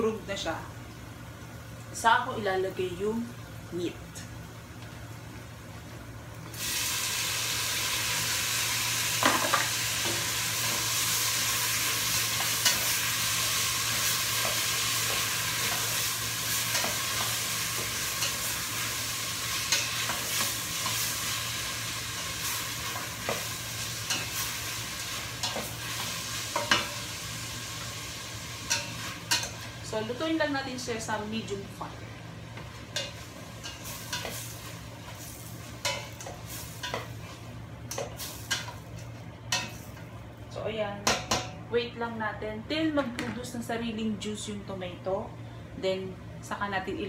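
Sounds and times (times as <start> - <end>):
tomatoes sizzling in hot oil: 0.0 - 41.4.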